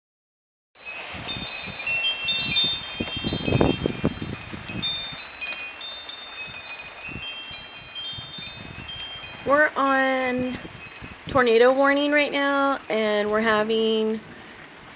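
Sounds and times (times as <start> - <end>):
wind chimes ringing: 0.8 - 13.3
gusty wind rumbles: 0.8 - 14.9.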